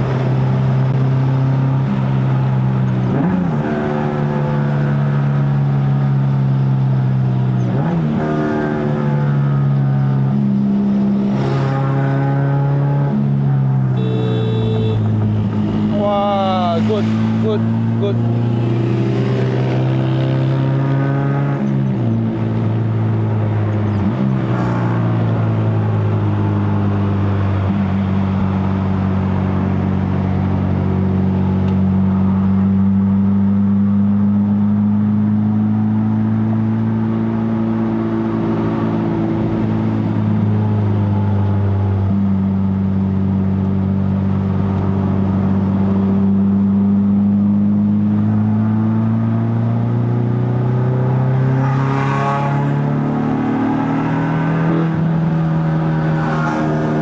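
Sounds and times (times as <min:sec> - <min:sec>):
car engine with loud exhaust: 0:00.0 - 0:57.0.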